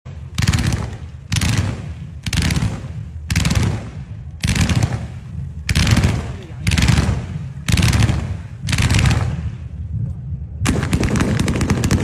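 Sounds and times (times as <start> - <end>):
fireworks crackling bangs: 0.2 - 10.0, 10.6 - 12.0.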